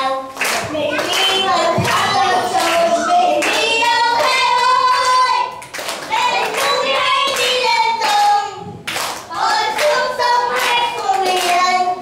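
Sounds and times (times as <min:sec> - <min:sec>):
children singing into microphones: 0:00.0 - 0:12.0
people clapping along: 0:00.0 - 0:12.0.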